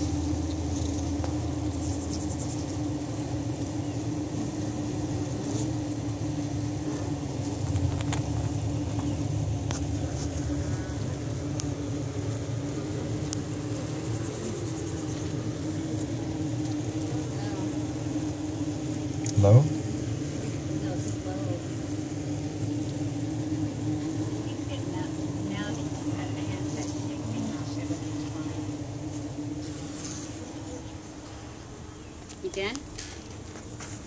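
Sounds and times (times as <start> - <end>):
honeybee colony humming: 0.0 - 34.0.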